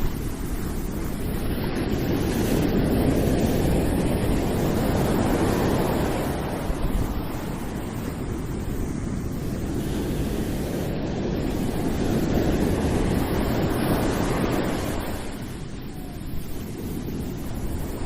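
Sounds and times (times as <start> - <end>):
ocean waves washing onto shore: 0.0 - 18.0
wind on microphone: 0.0 - 18.0.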